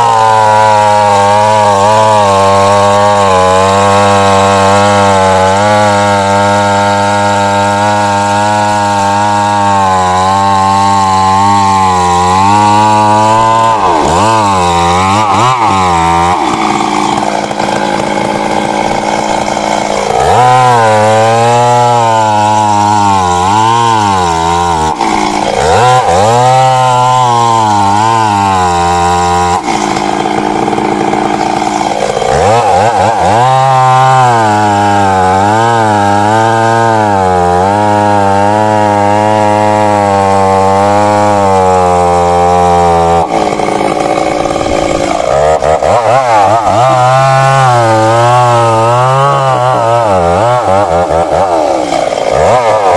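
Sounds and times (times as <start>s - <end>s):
chainsaw cutting tree trunk: 0.0s - 52.9s.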